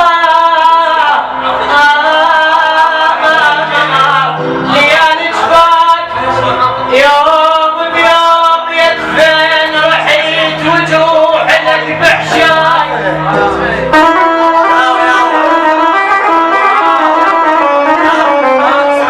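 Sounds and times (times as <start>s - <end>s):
man singing long bending notes: 0.0s - 19.0s
musical accompaniment: 0.0s - 19.0s.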